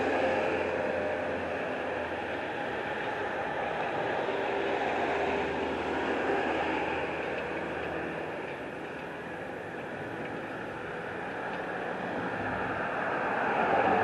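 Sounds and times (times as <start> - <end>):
vehicle engine hum and rush: 0.0 - 14.0.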